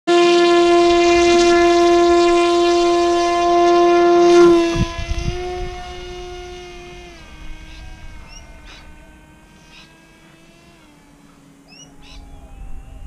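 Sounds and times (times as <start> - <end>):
model plane motor whine: 0.1 - 13.0.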